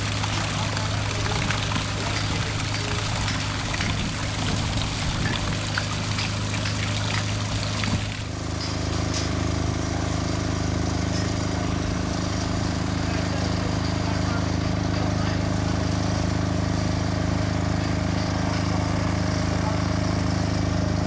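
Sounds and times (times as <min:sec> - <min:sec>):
water pouring and splashing: 0:00.0 - 0:18.9.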